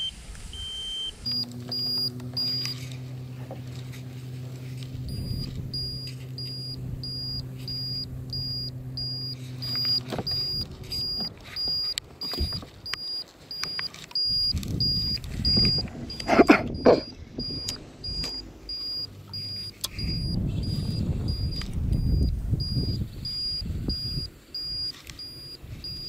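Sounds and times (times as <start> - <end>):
electronic alarm beeping: 0.0 - 3.0, 5.0 - 26.0
low steady hum: 0.0 - 26.0
gear knocking and rustling: 1.2 - 26.0.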